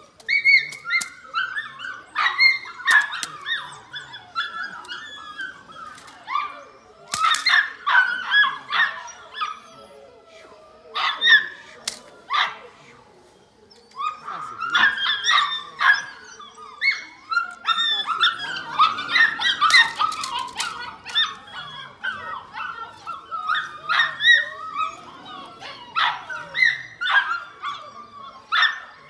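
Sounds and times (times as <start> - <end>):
puppy yipping and barking: 0.3 - 10.1, 13.8 - 29.0.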